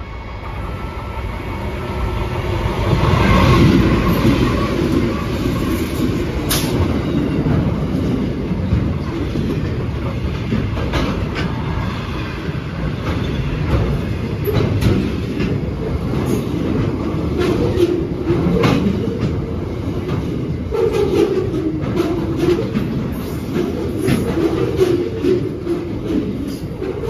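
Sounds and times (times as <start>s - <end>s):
train rumbling past: 0.0s - 27.0s
wheels clacking on rail joints: 3.4s - 27.0s.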